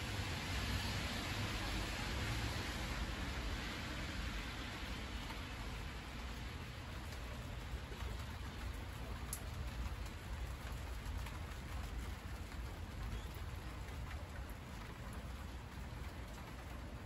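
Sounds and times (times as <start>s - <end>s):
rain hissing on leaves: 0.0s - 17.0s.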